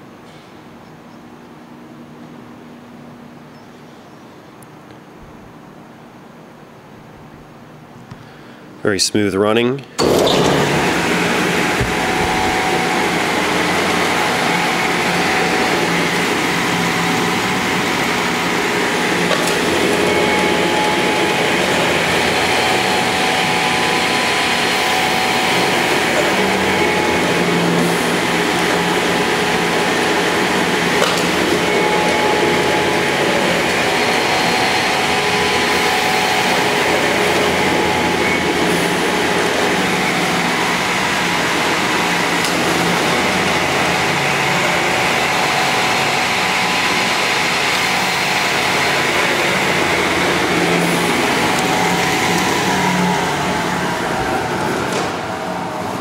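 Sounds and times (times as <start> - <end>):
miter saw running: 10.0 - 56.0.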